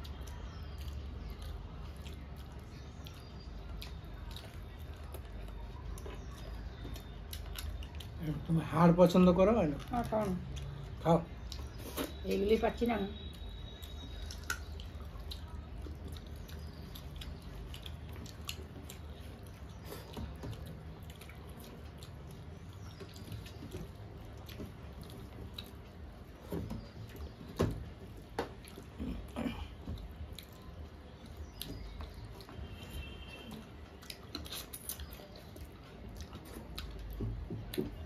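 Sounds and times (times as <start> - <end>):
chewing: 0.0 - 38.0
fingers squishing food: 0.0 - 38.0.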